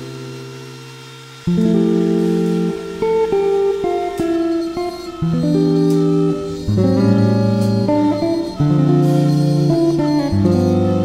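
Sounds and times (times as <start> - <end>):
plucked guitar melody: 1.5 - 11.0.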